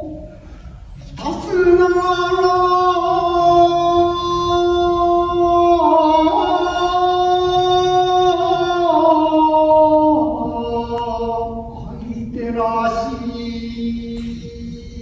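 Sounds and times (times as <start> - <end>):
person chanting long notes: 1.1 - 15.0.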